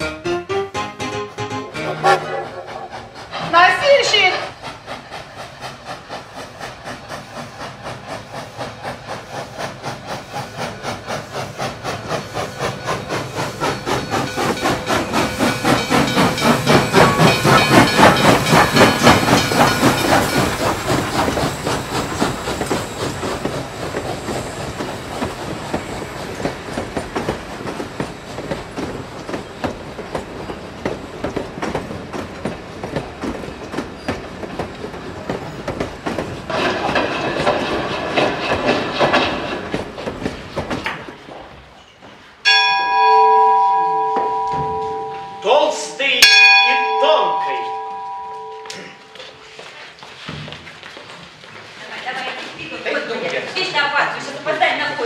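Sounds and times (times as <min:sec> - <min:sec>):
train wheels clattering: 0:00.0 - 0:55.0.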